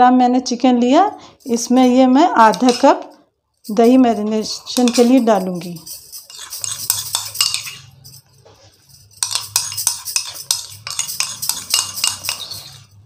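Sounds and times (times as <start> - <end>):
metal spoon scraping glass bowl: 1.3 - 13.0.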